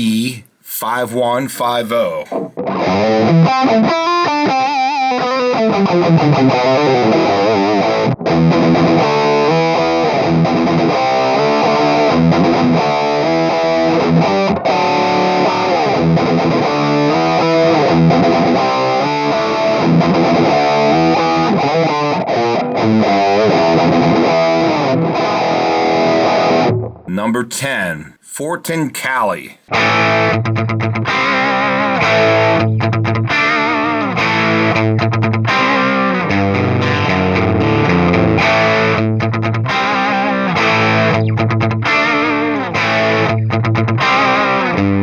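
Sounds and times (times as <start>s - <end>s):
distorted electric guitar riffs: 2.3s - 27.3s, 29.6s - 45.0s.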